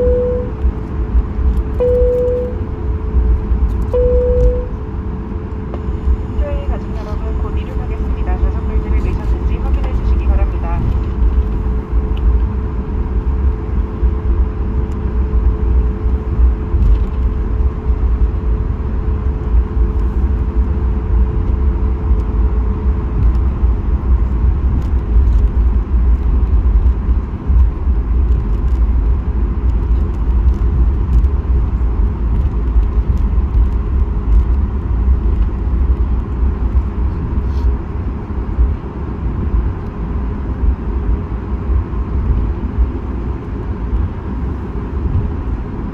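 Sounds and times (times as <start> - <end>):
jet engines idling hum: 0.0 - 45.9.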